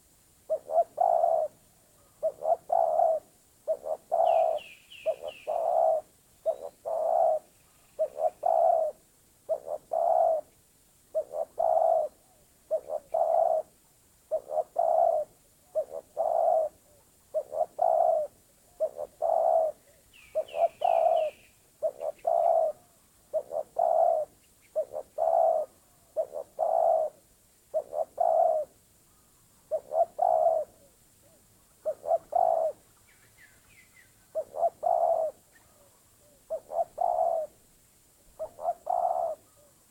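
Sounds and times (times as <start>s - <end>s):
dove cooing: 0.0s - 37.6s, 38.3s - 39.9s
small bird high calls: 0.5s - 10.6s, 14.3s - 37.6s, 38.3s - 39.9s.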